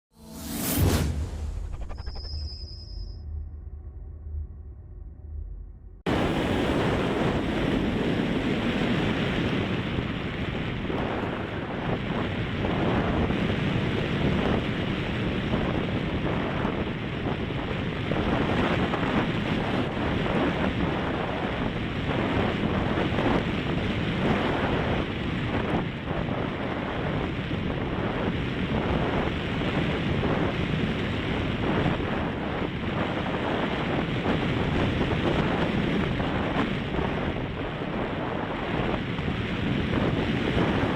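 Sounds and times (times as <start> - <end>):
strong wind buffeting microphone: 6.0 - 40.9.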